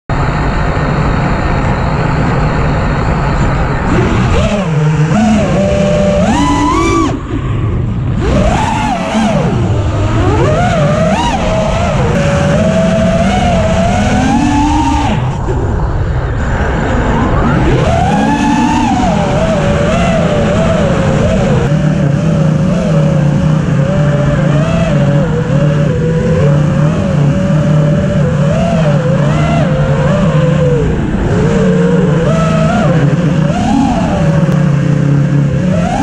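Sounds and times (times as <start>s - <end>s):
dense rushing noise: 0.1s - 36.0s
quadcopter motors whining: 0.2s - 36.0s.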